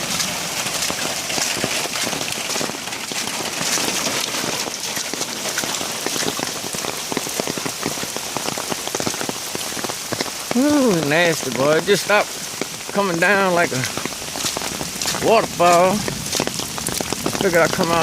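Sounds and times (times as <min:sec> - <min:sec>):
heavy rain falling: 0:00.0 - 0:18.0
raindrops tapping close by: 0:00.0 - 0:18.0.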